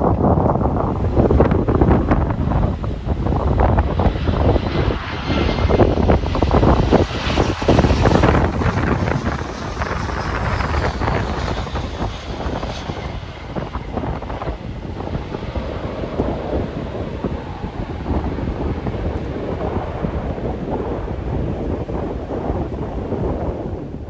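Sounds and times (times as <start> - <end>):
airliner engines running: 0.0 - 24.0
wind buffeting microphone: 0.0 - 24.0.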